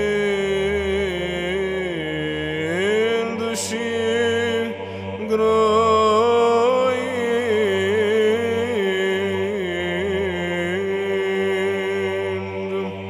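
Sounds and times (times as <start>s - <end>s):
low held vocal drone: 0.0s - 13.0s
voice chanting ornamented melody: 0.0s - 13.0s.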